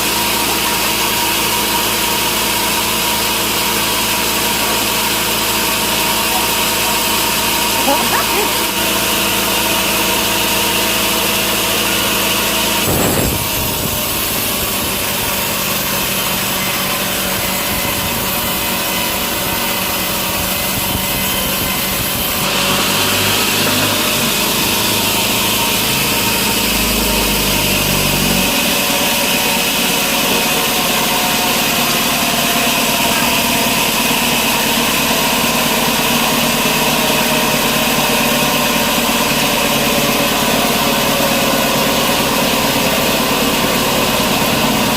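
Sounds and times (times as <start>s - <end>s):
saw cutting through wood: 0.0s - 44.9s
sawmill machinery running: 0.0s - 44.9s.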